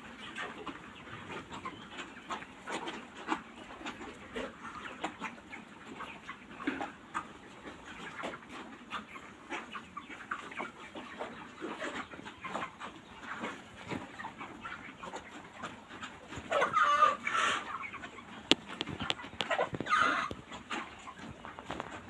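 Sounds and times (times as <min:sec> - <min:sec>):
chickens clucking and chirping: 0:00.0 - 0:22.0.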